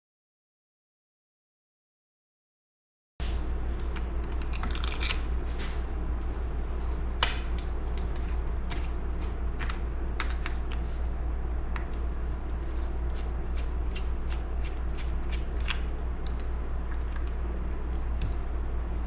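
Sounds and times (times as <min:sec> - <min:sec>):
steady low hum: 0:03.2 - 0:19.0.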